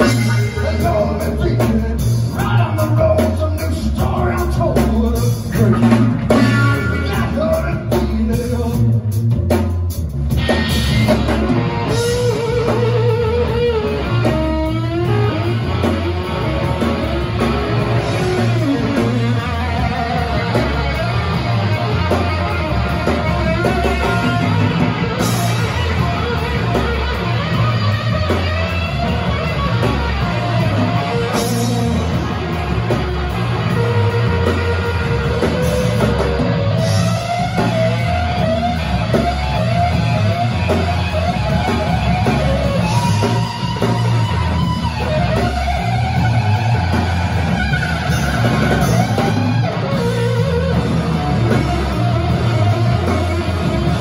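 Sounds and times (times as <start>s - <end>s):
bass guitar: 0.0s - 54.0s
distorted electric guitars: 0.0s - 54.0s
drums: 0.0s - 54.0s.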